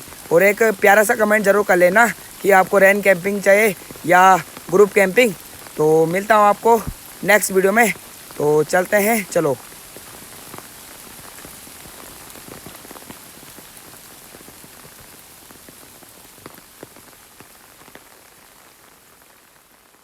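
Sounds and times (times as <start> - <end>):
rain falling: 0.0 - 20.0
raindrops ticking close by: 0.0 - 20.0.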